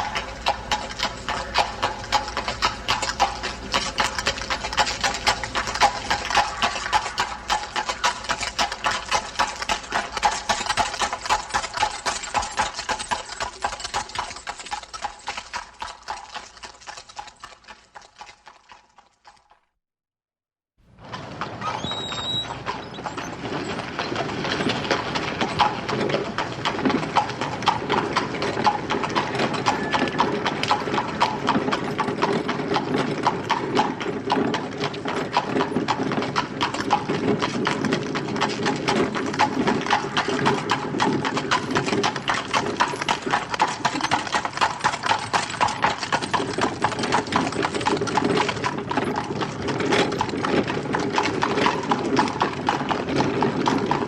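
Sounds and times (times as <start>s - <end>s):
wagon wheels rolling: 0.0s - 19.6s, 20.9s - 54.0s
horse hooves clip-clopping on street: 0.0s - 19.8s, 20.9s - 54.0s.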